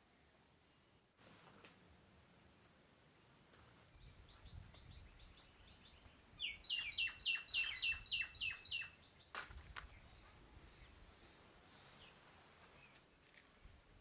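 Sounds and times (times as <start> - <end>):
songbird singing: 1.7 - 14.0.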